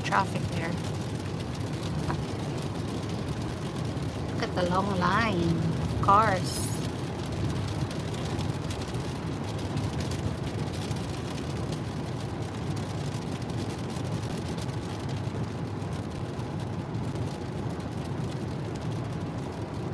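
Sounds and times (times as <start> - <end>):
car engine: 0.0 - 19.9
raindrops on windshield: 0.0 - 19.9
tyres on wet road: 0.0 - 19.9.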